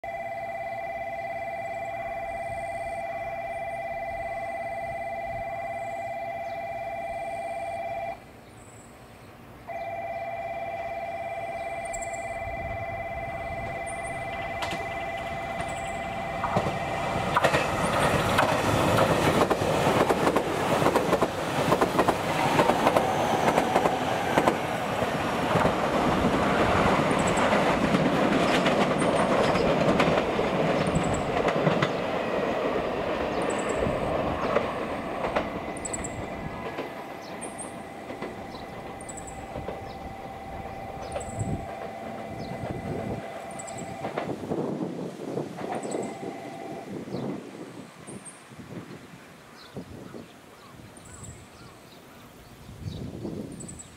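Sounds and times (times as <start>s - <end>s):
level-crossing warning bell: 0.0s - 8.3s, 9.7s - 47.4s
train rumbling past: 0.1s - 49.1s.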